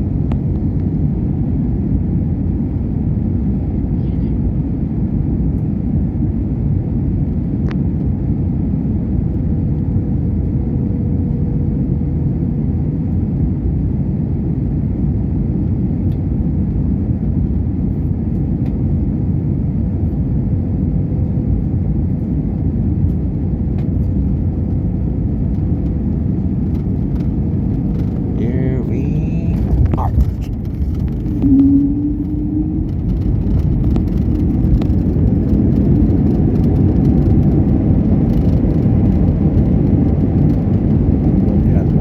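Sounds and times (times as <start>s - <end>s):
airliner cabin engine rumble: 0.0s - 42.0s.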